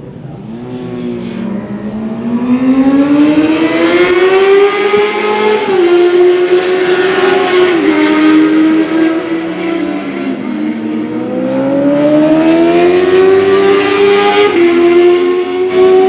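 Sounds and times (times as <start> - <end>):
racing motorcycle engine accelerating: 0.0 - 16.0.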